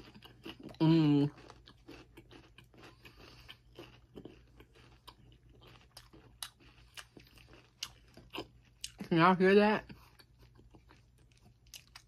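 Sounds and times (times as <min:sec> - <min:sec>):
person chewing crispy chicken: 0:00.0 - 0:09.1, 0:09.8 - 0:12.0.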